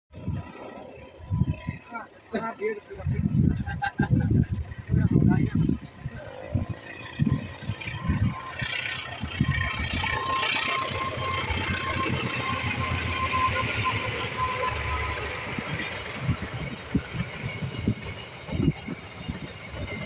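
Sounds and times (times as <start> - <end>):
locomotive engine rumble: 0.1 - 20.0
thin steady whine: 0.2 - 20.0.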